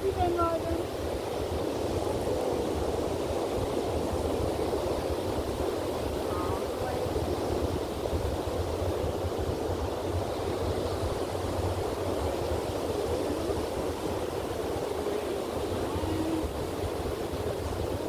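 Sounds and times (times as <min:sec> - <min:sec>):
low uneven rumble: 0:00.0 - 0:18.0
ocean surf breaking: 0:00.0 - 0:18.0.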